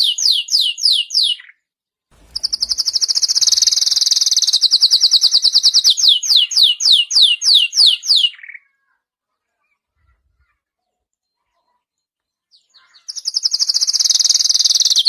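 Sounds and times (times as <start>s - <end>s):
canary singing: 0.0s - 1.6s, 2.2s - 9.0s, 9.7s - 15.0s.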